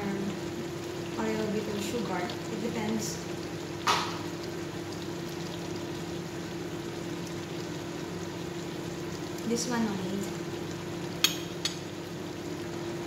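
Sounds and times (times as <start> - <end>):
food simmering hiss: 0.0 - 13.0.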